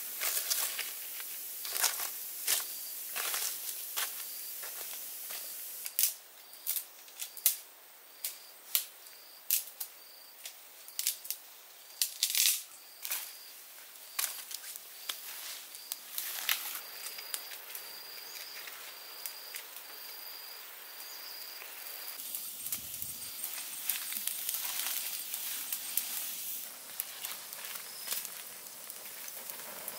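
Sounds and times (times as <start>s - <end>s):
fire crackling and popping: 0.0s - 7.6s, 8.2s - 29.9s.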